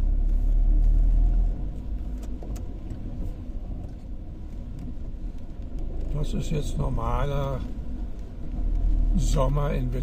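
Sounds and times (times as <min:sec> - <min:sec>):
car rumble on wet road: 0:00.0 - 0:10.0.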